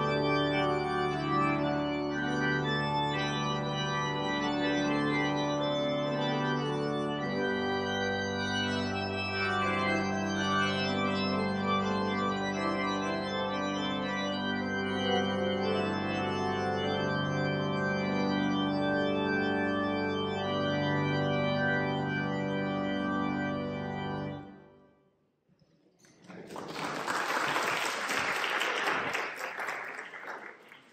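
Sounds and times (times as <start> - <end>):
church organ chords: 0.0 - 25.0.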